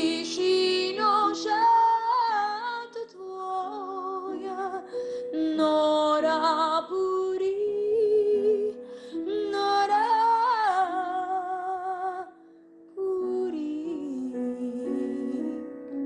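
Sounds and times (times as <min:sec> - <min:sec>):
woman singing with vibrato: 0:00.0 - 0:12.3, 0:13.0 - 0:15.7.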